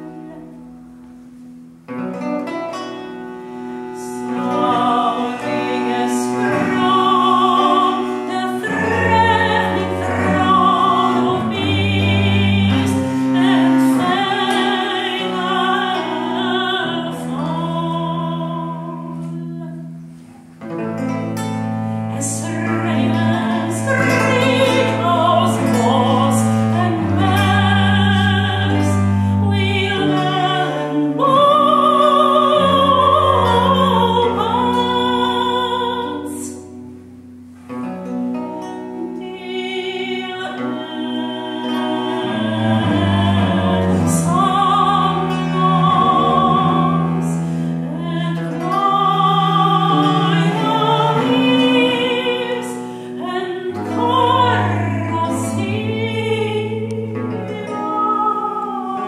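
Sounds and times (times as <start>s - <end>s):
woman singing with vibrato: 0.0s - 1.0s, 3.8s - 20.2s, 21.0s - 36.8s, 38.8s - 59.0s
bowed viola da gamba: 0.0s - 59.0s
plucked lute: 0.0s - 59.0s.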